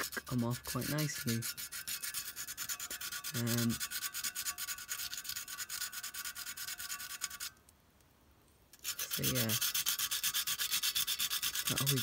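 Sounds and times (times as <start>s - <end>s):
sandpaper rubbing on metal: 0.0s - 7.5s, 8.8s - 12.0s.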